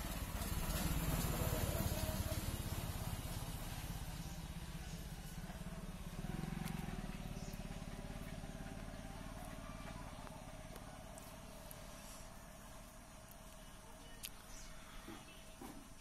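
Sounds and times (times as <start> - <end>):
engine pulsing rumble: 0.0 - 16.0.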